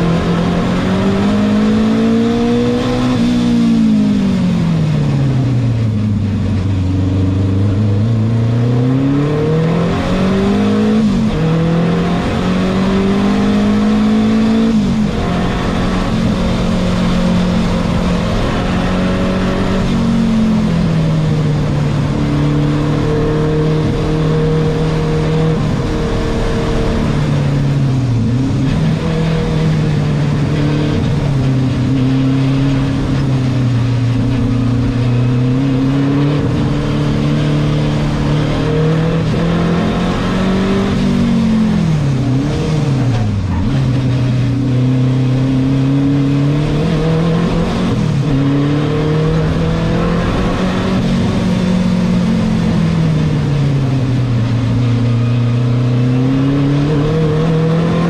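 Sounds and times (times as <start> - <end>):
car engine under hard driving: 0.0 - 58.0.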